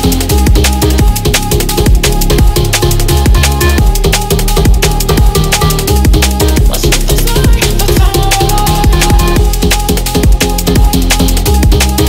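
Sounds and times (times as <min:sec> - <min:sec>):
electronic music with fast drum beat: 0:00.0 - 0:12.0.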